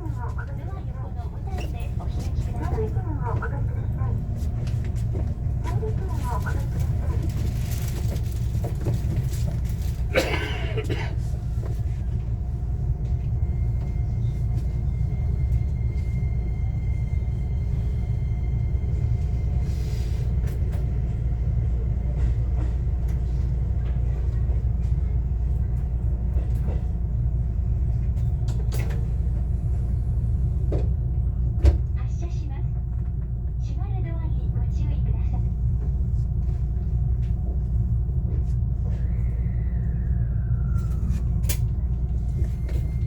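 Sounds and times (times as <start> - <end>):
rumble of wheels on rail: 0.0 - 43.0.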